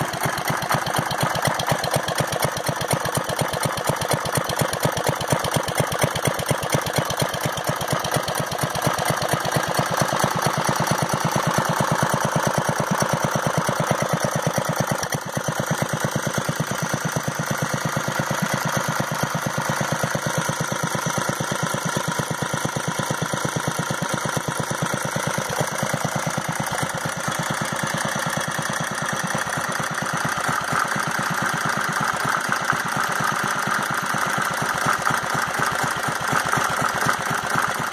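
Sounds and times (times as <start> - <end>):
stationary engine chugging: 0.0 - 37.9.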